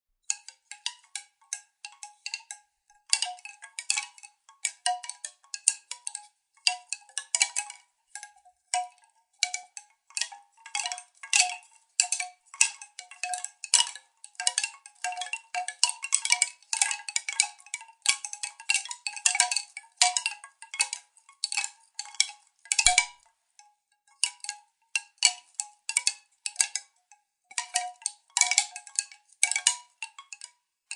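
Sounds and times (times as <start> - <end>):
wooden tubes clacking: 0.3 - 26.9, 27.5 - 30.5.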